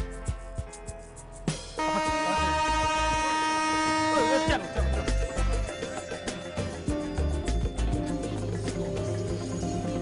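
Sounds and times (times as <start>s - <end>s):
music with beat and deep bass: 0.0s - 10.0s.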